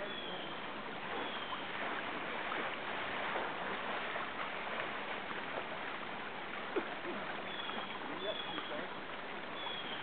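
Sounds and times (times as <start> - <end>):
river current rushing: 0.0 - 10.0.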